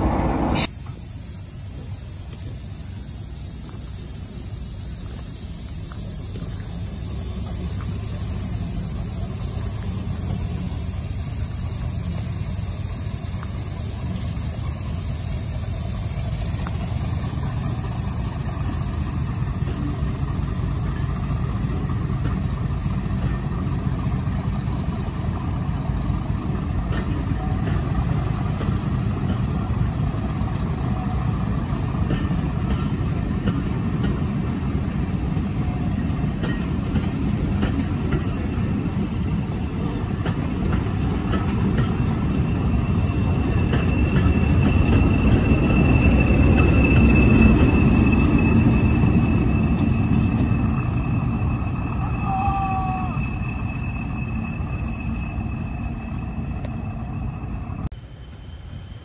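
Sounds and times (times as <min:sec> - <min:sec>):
train coaches rumbling on rails: 0:00.0 - 0:59.0.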